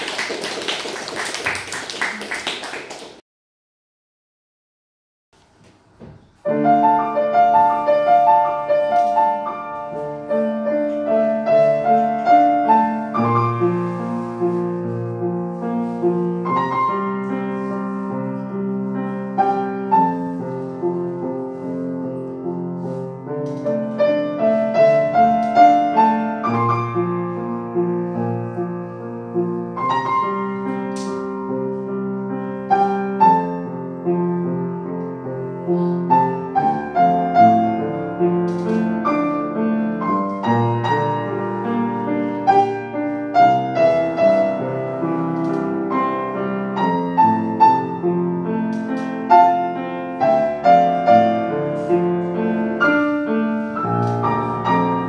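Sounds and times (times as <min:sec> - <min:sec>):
solo grand piano: 0:05.4 - 0:55.0.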